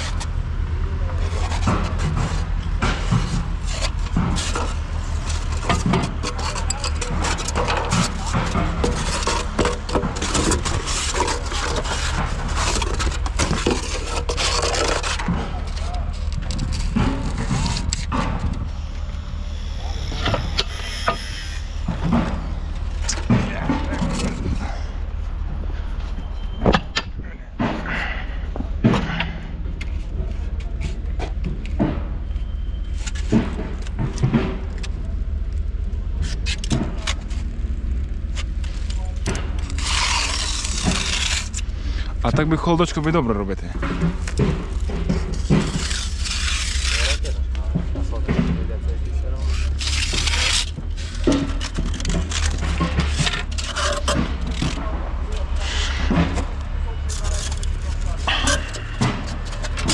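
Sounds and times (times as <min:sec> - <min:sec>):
scraping and rubbing: 0:00.0 - 0:35.1, 0:36.1 - 0:59.9
construction knocks and clanks: 0:00.0 - 0:59.9
low engine hum: 0:00.0 - 0:59.9
steady low drone: 0:00.0 - 0:59.9.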